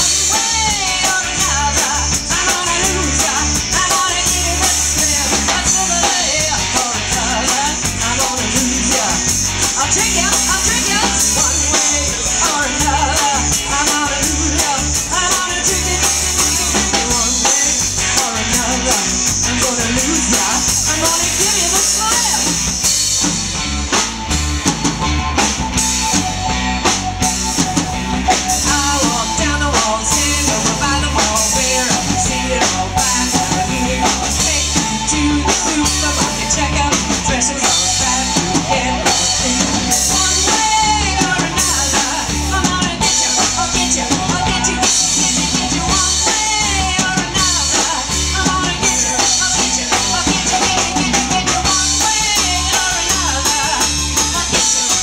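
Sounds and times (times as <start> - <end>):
drum kit beat: 0.0 - 55.0
rock band playing: 0.0 - 55.0.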